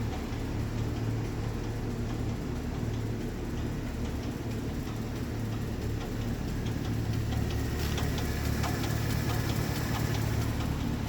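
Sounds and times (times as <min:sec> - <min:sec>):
engine humming: 0:00.0 - 0:11.0
engine lifter ticking: 0:00.0 - 0:11.0.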